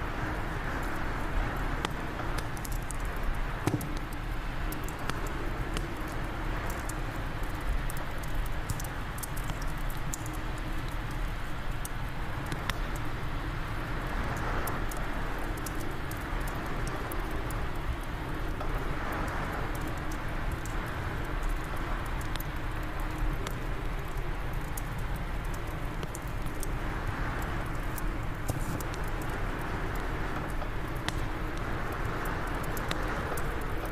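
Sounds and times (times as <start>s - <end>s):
fire crackling and popping: 0.0s - 33.9s
wind gusts: 0.0s - 33.9s.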